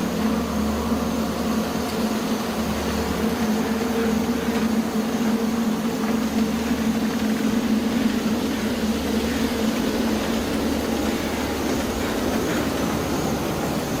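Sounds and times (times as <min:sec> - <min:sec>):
low ambient rumble: 0:00.0 - 0:14.0.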